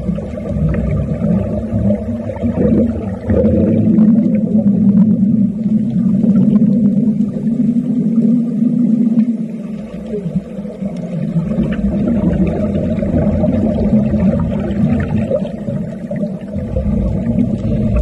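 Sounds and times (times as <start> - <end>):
underwater rumble and hum: 0.0 - 18.0.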